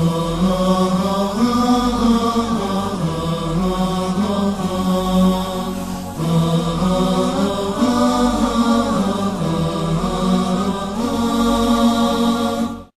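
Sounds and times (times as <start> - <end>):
voices singing long aah notes: 0.0 - 12.9.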